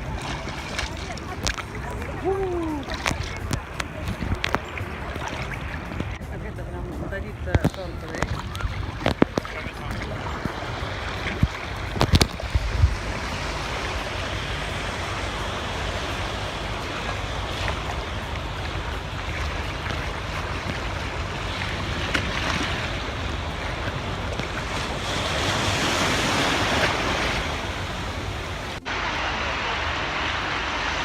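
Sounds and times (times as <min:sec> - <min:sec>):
sea waves breaking: 0:00.0 - 0:31.0
wind buffeting microphone: 0:00.0 - 0:31.0.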